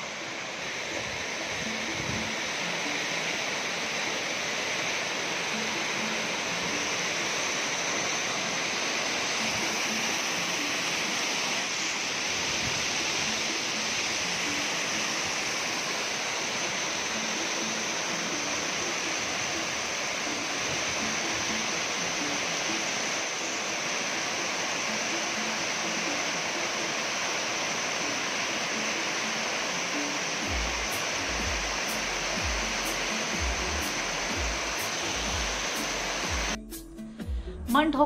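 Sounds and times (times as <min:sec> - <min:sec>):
waterfall rushing: 0:00.0 - 0:36.6.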